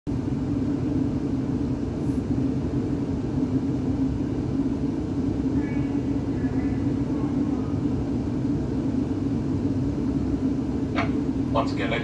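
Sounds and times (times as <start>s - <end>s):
train equipment low hum: 0.1s - 12.0s.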